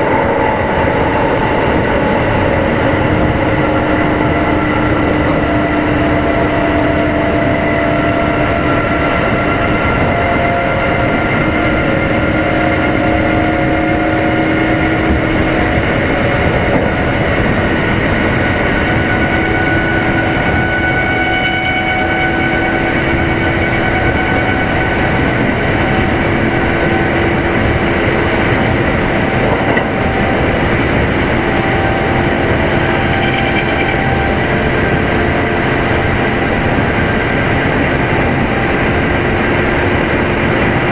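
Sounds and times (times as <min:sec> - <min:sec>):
train motor and gears whining: 0:00.0 - 0:40.9
train wheels rumbling on rail: 0:00.0 - 0:40.9.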